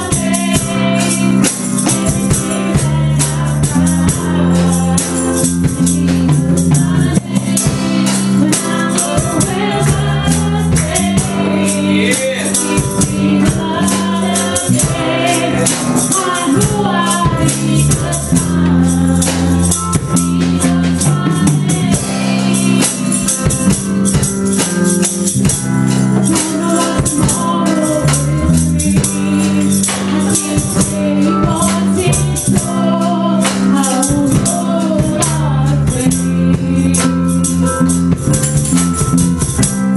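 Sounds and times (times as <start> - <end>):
woman singing into microphone: 0.0 - 24.6, 25.4 - 38.3
gospel band playing: 0.0 - 39.9.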